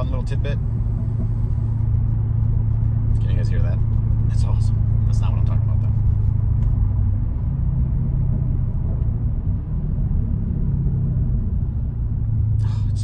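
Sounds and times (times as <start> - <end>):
car engine and exhaust drone: 0.0 - 13.0.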